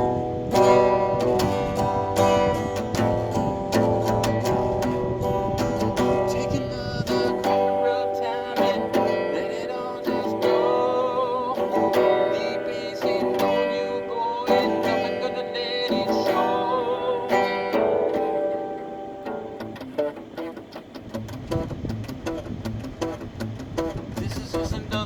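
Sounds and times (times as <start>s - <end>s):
wavering melody line: 0.0s - 22.4s
strummed guitar: 0.0s - 25.0s.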